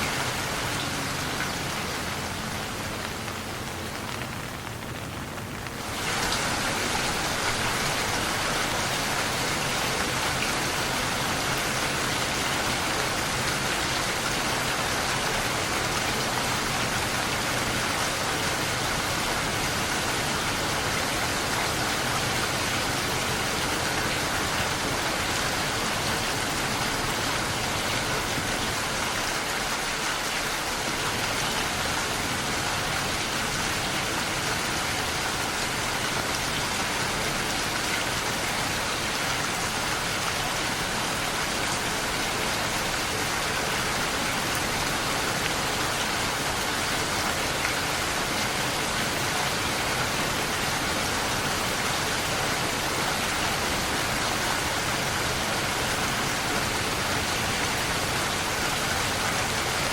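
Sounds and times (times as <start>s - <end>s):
rain pattering on surfaces: 0.0s - 59.9s.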